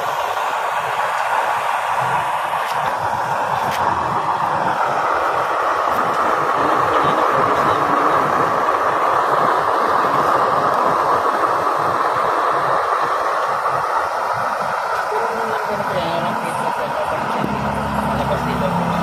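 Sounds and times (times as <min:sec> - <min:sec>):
oil burner blower rushing: 0:00.0 - 0:19.0.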